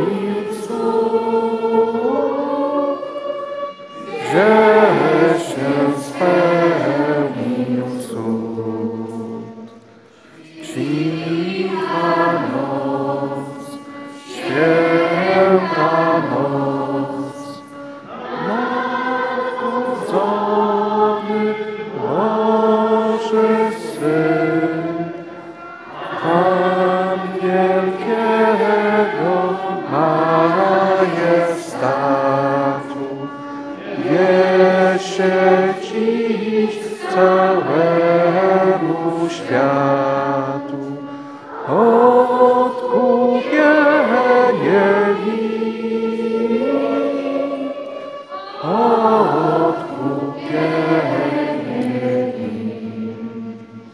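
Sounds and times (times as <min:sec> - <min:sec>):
children singing a carol: 0:00.0 - 0:53.9.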